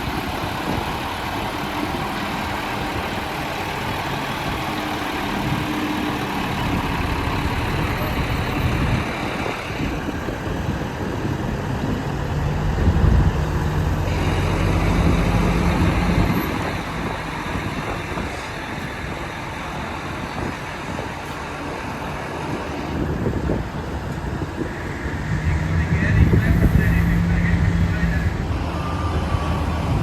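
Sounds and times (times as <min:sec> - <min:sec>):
heavy truck engine droning: 0:00.0 - 0:30.0
traffic noise: 0:00.0 - 0:30.0.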